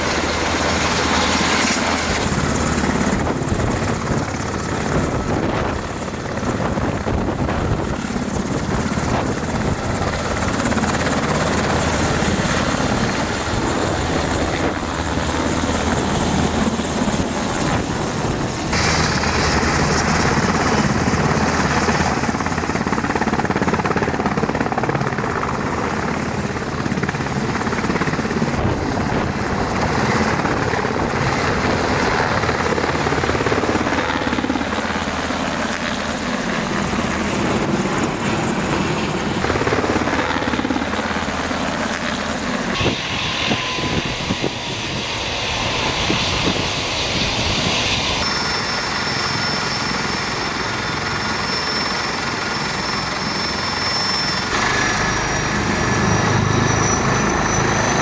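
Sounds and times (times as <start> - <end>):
helicopter rotor and turbine: 0.0 - 58.0
high turbine whine: 0.0 - 58.0.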